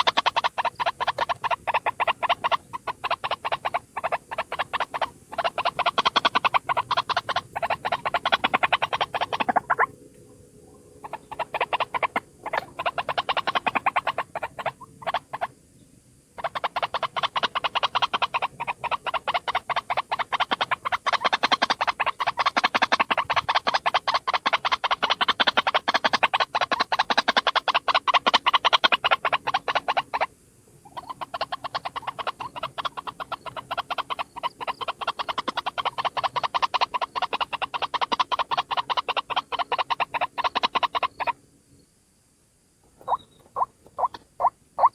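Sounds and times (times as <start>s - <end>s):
waterhen harsh croaking calls: 0.0s - 10.0s, 11.0s - 15.5s, 16.4s - 41.4s, 42.9s - 44.9s.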